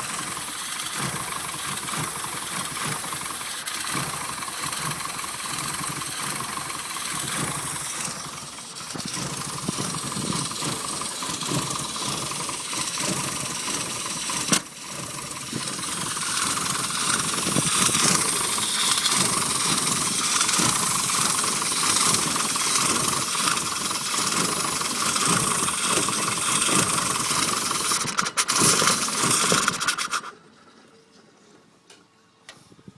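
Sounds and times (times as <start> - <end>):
car engine sputtering idle: 0.0 - 30.6.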